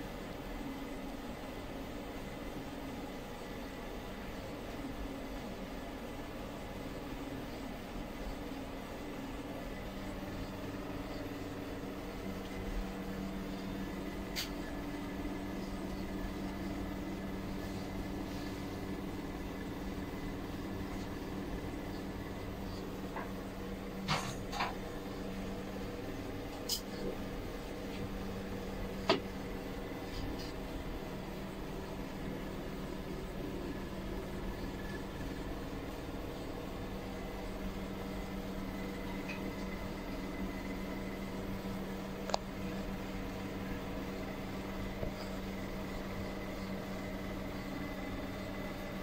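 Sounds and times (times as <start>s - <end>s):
low room hum: 0.0s - 49.0s.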